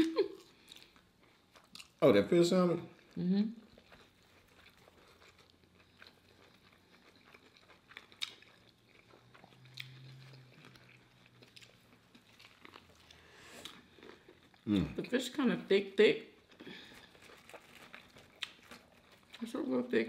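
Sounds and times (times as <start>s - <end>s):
chewing and biting food: 0.3s - 2.0s, 2.9s - 15.1s, 16.4s - 20.0s.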